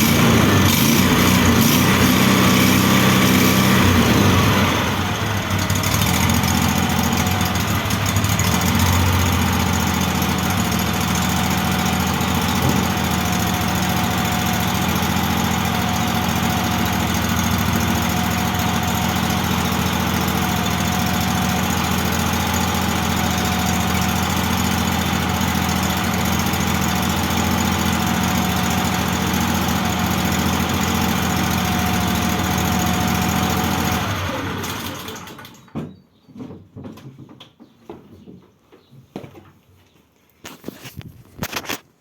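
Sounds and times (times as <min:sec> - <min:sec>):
outboard engine idling: 0:01.6 - 0:35.3.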